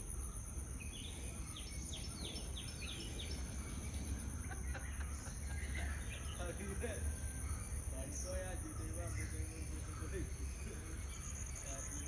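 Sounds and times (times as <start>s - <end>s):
high insect drone: 0.0s - 12.0s
low outdoor rumble: 0.0s - 12.0s.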